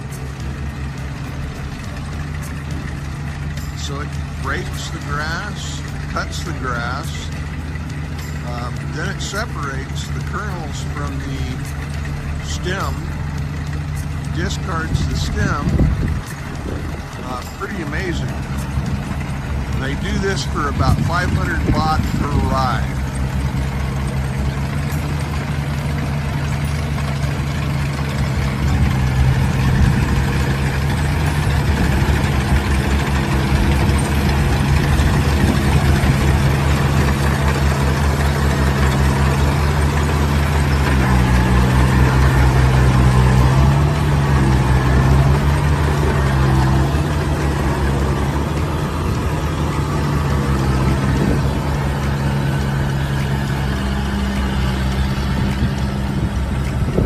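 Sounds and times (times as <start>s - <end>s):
diesel engine hum: 0.0s - 57.0s
harvester cutting gear clatter: 0.0s - 57.0s.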